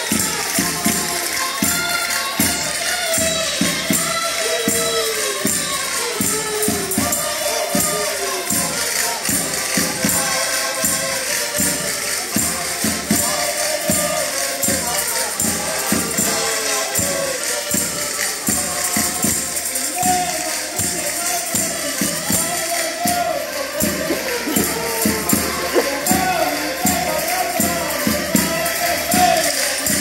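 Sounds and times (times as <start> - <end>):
accordions playing lively tune: 0.0 - 30.0
jingling percussion: 0.0 - 30.0
voices singing along: 0.0 - 30.0
wooden scraper percussion: 0.0 - 30.0.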